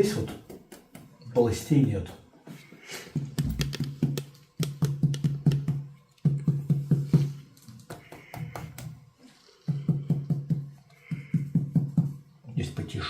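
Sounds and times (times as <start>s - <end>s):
fingertips tapping on abdomen: 0.2s - 12.4s.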